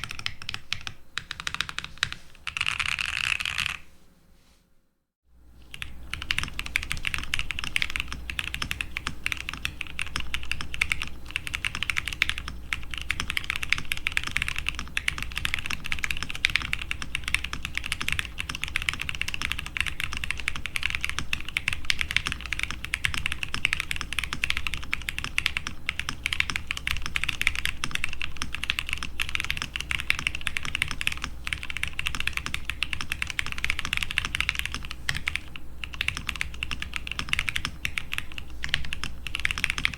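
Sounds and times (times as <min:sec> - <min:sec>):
fast typing on mechanical keyboard: 0:00.0 - 0:03.8, 0:05.7 - 0:39.9.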